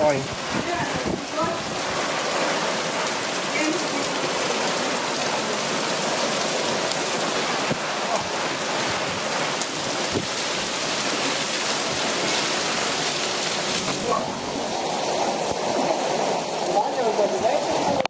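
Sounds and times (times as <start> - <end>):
heavy rain on tiles: 0.0 - 18.0
rain on fabric shade: 0.0 - 18.0
runoff water splashing: 0.0 - 18.0.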